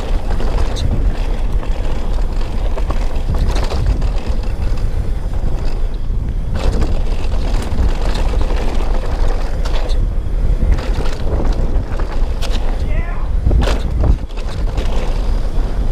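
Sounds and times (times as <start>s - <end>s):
rumble of riding at speed: 0.0s - 15.9s
wind buffeting microphone: 0.0s - 15.9s.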